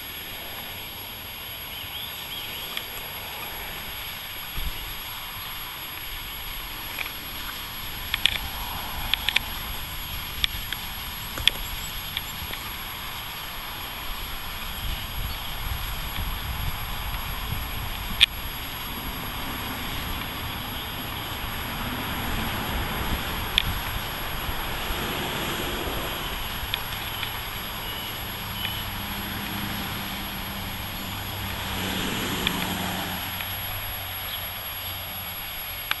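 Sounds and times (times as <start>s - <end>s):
low hum: 0.0s - 36.0s
outdoor background noise: 0.0s - 36.0s.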